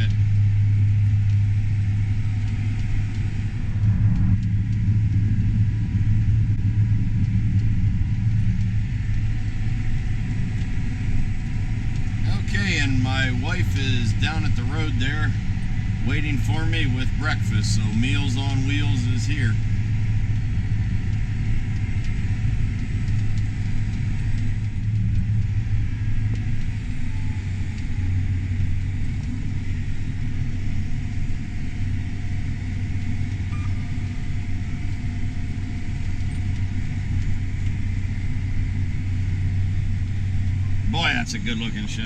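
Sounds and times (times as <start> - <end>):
tractor engine droning: 0.0 - 42.0.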